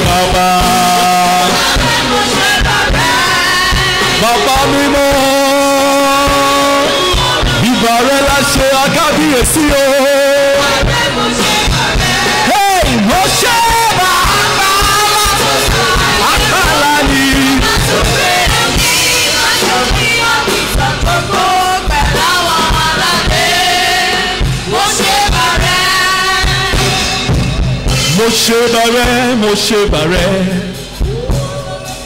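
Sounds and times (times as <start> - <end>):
people singing: 0.0 - 27.3
drum beat: 0.0 - 32.0
keyboard: 0.0 - 32.0.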